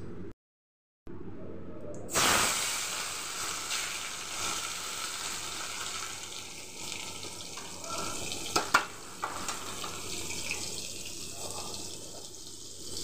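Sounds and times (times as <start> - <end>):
tomatoes sizzling in hot oil: 2.1 - 13.0.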